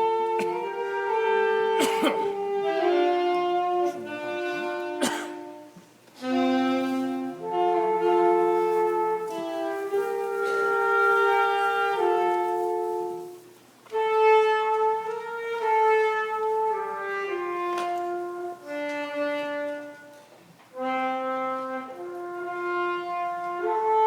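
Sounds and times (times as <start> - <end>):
wind instruments playing chords: 0.0 - 24.0.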